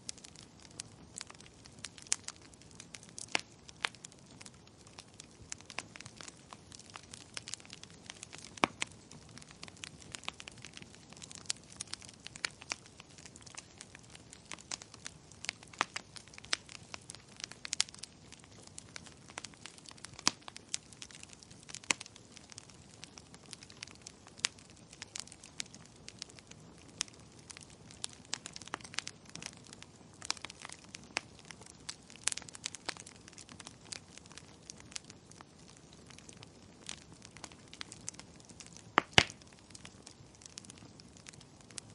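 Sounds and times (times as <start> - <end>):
faint steady hiss: 0.0 - 41.9
wood fire crackling: 0.0 - 41.9.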